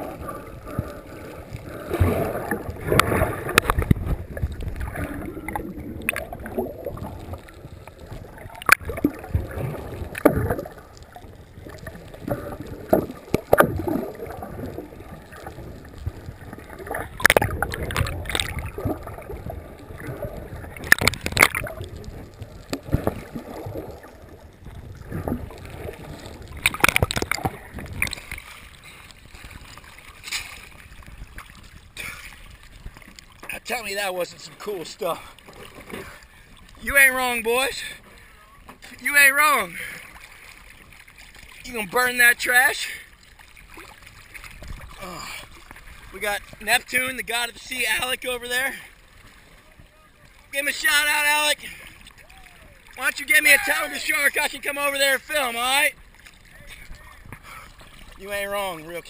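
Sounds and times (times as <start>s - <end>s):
water churning underwater: 0.0s - 59.0s.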